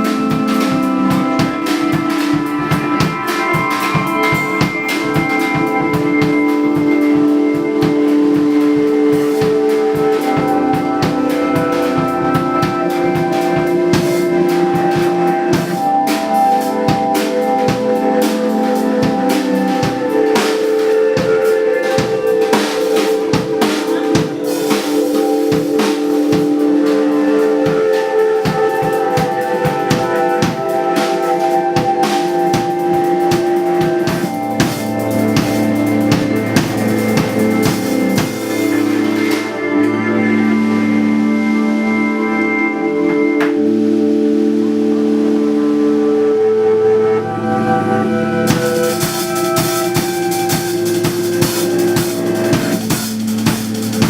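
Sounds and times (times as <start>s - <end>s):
drum kit playing: 0.0s - 41.5s, 48.3s - 54.0s
sustained chords: 0.0s - 54.0s.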